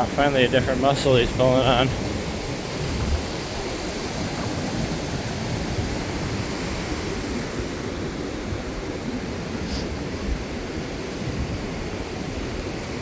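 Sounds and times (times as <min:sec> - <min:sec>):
ocean surf washing onto beach: 0:00.0 - 0:13.0.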